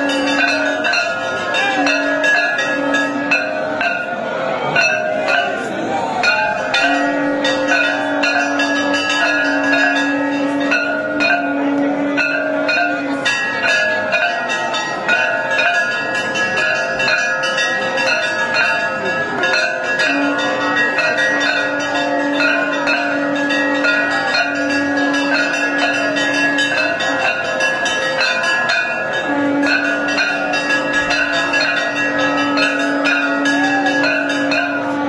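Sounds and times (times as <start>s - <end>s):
brass plate gong clanging: 0.0s - 35.0s
temple bells ringing: 0.0s - 35.0s.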